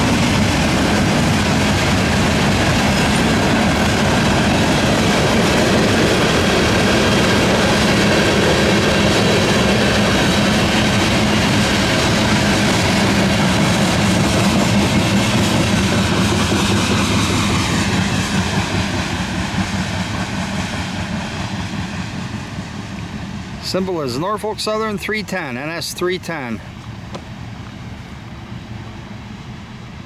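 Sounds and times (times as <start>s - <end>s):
freight train rolling by: 0.0s - 30.0s.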